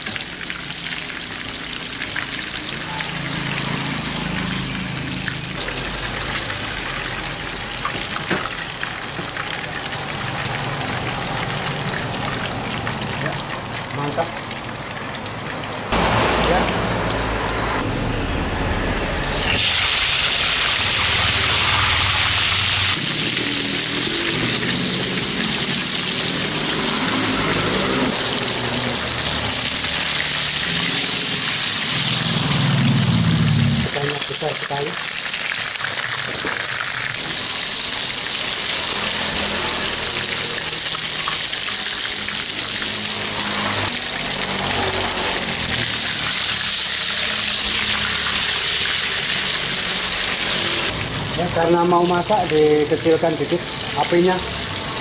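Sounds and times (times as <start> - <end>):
fish sizzling in hot oil: 0.0 - 17.8, 19.4 - 55.0.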